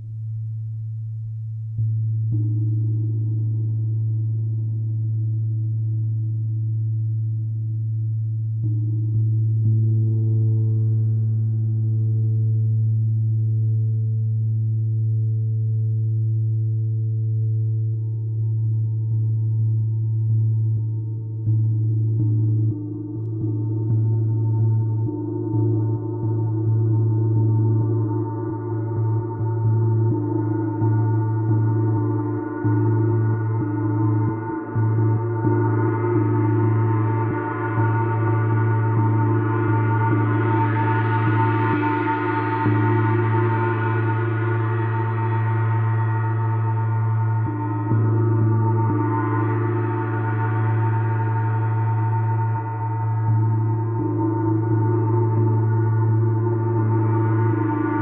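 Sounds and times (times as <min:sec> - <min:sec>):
deep hum: 0:00.0 - 0:58.0.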